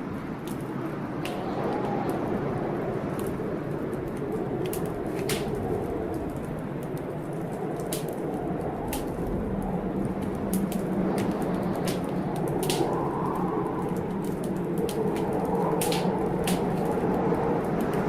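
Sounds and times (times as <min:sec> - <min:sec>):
storm rain hiss: 0:00.0 - 0:18.0
wood fire crackling: 0:00.0 - 0:18.0.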